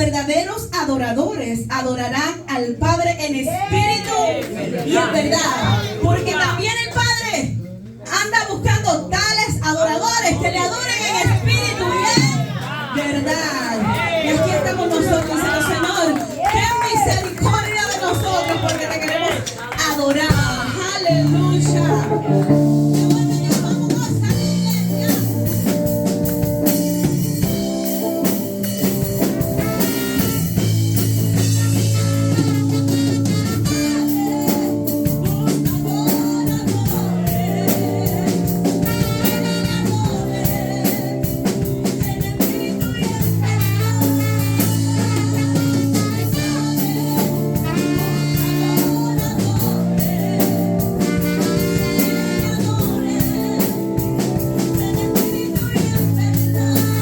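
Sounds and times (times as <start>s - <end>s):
worship band playing: 3.2s - 57.0s.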